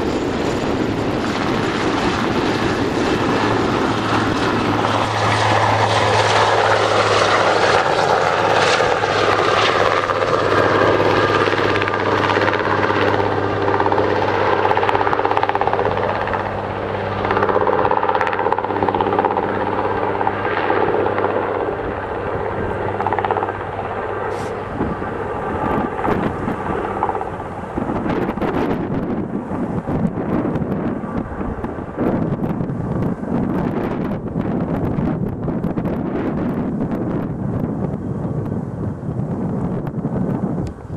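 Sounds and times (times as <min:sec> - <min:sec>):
helicopter rotor and turbine noise: 0:00.0 - 0:40.9.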